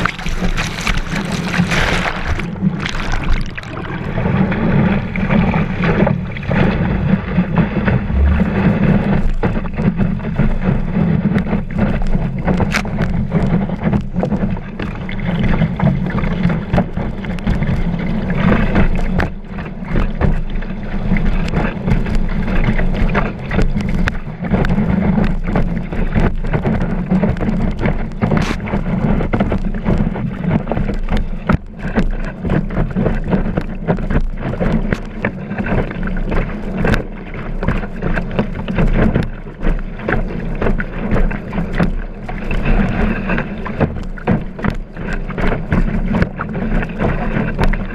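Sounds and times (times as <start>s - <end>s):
board knocking on waves: 0.0s - 47.9s
water rushing and slapping: 0.0s - 47.9s
wind buffeting microphone: 0.0s - 47.9s.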